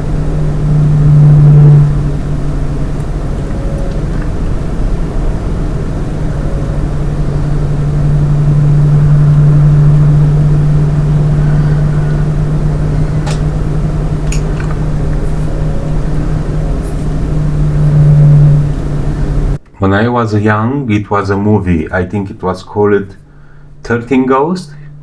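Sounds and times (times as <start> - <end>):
computer fans droning: 0.0 - 25.0.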